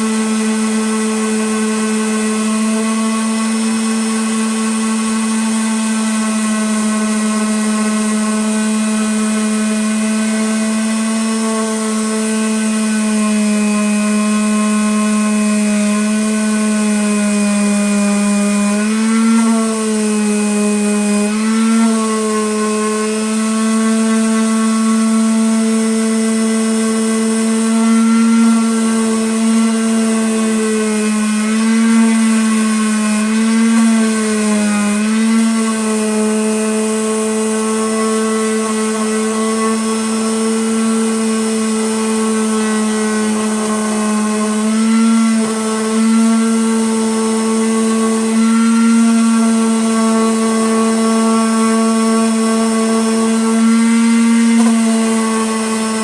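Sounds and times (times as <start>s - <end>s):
power sander on wood: 0.0s - 56.0s.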